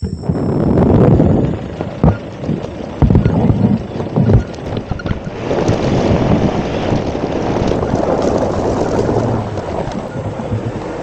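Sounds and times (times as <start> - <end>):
tyres on dirt track: 0.0 - 11.0
vehicle engine: 0.0 - 11.0
wind rushing over microphone: 0.0 - 11.0.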